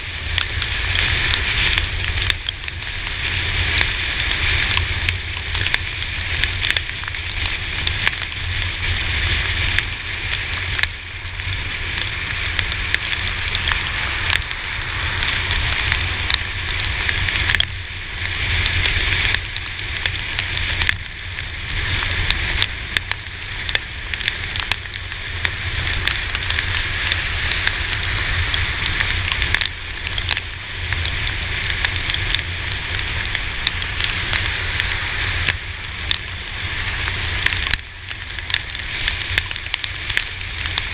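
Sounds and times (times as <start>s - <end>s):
rain crackling on camera: 0.0s - 40.9s
wind and tyre rumble: 0.0s - 40.9s.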